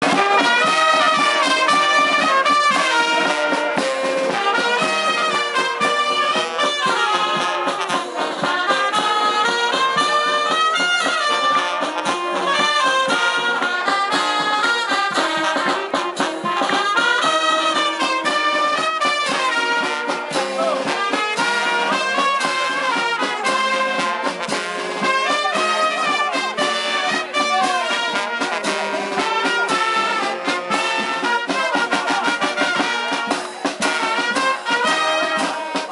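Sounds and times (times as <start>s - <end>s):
brass band playing: 0.0s - 35.9s.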